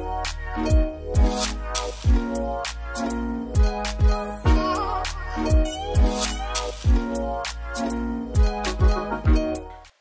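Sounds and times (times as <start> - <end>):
held chords: 0.0 - 9.8.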